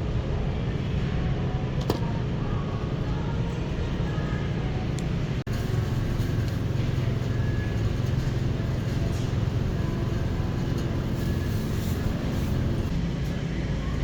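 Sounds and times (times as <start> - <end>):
road and engine rumble in car: 2.5 - 14.0.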